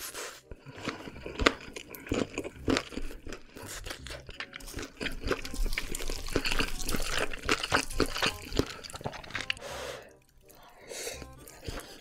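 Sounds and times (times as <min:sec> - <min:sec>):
chopsticks stirring sticky noodles: 0:00.0 - 0:12.0.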